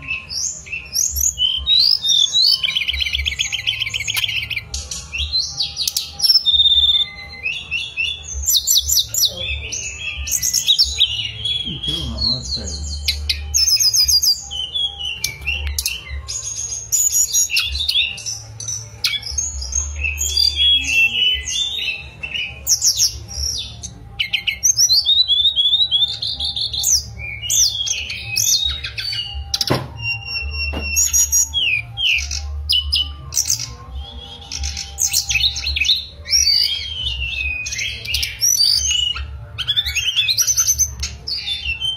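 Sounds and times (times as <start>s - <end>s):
bird singing fast varied song: 0.0s - 41.9s.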